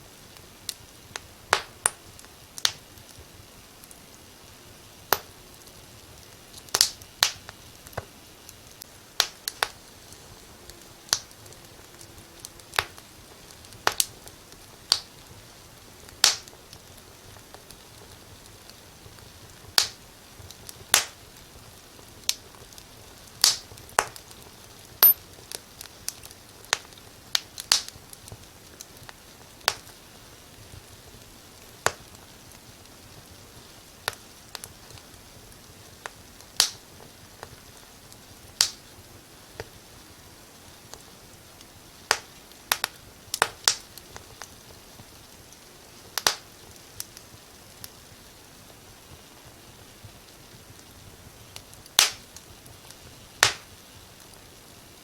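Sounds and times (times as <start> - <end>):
faint steady hiss: 0.0 - 55.0
wood fire crackling: 0.0 - 55.0.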